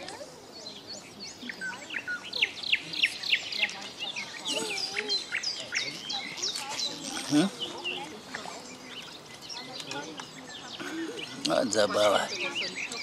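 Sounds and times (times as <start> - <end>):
birds chirping: 0.0 - 13.0
faint outdoor hiss: 0.0 - 13.0.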